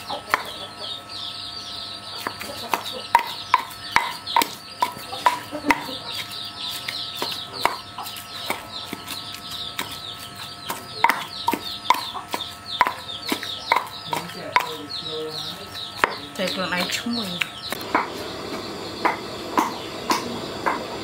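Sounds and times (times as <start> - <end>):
chicks peeping: 0.0 - 21.0
pestle pounding in stone mortar: 2.2 - 15.0, 15.7 - 18.2, 19.0 - 20.9.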